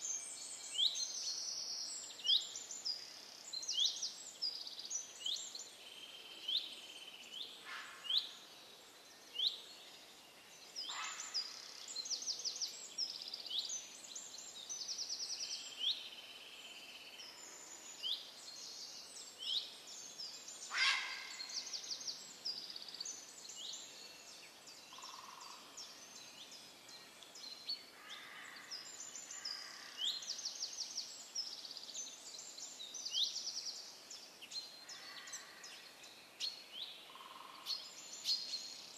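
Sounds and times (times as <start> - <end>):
faint steady background noise: 0.0 - 38.9
songbirds chirping and trilling: 0.0 - 38.9.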